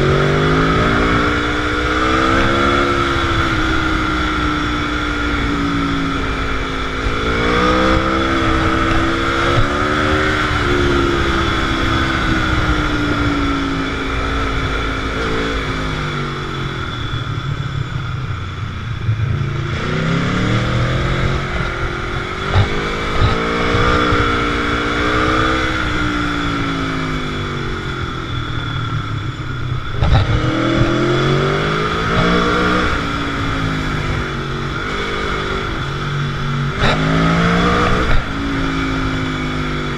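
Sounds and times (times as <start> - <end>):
motorcycle engine accelerating: 0.0 - 39.9
steady rushing noise: 0.0 - 39.9.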